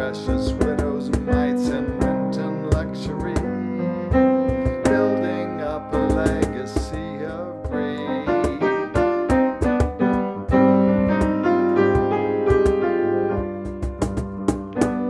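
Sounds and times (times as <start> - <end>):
cajon beating rhythm: 0.0 - 15.0
upright piano playing: 0.0 - 15.0.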